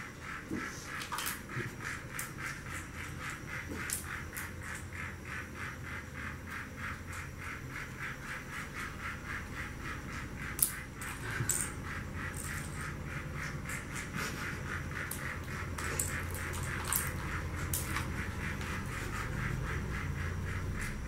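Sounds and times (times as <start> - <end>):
toy train running on track: 0.1 - 21.0.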